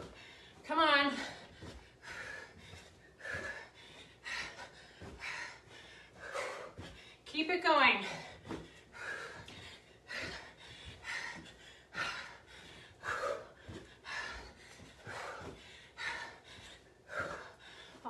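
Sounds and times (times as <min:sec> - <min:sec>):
feet thudding on carpet: 0:00.0 - 0:17.5
woman breathing hard: 0:00.0 - 0:18.0.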